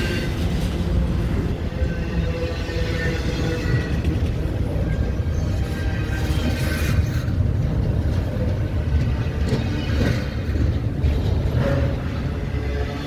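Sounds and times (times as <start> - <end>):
freight train rumbling by: 0.0 - 13.0.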